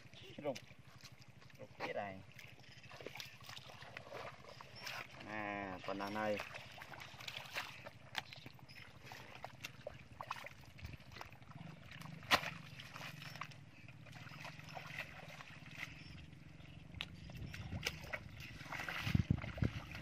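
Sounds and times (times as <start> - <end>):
low steady hum: 0.0 - 20.0
small water splashes: 0.0 - 20.0
squelches in wet mud: 0.0 - 20.0.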